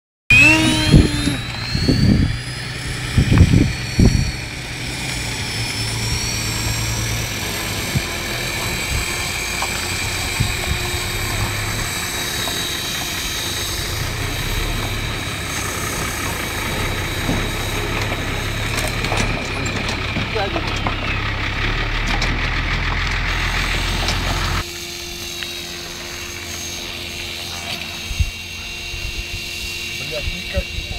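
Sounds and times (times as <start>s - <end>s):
rc helicopter motor whine: 0.3s - 30.9s.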